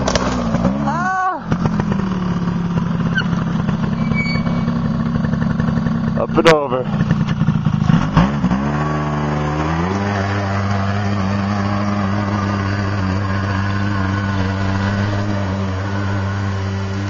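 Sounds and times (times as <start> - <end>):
small engine revving: 0.0 - 17.0.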